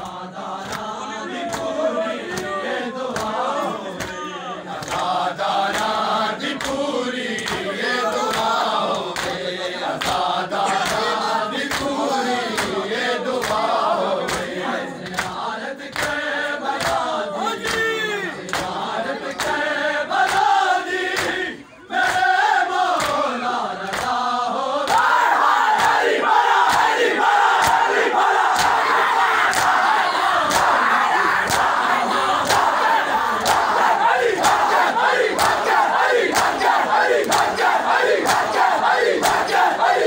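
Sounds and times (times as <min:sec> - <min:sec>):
men chanting in chorus: 0:00.0 - 0:40.0.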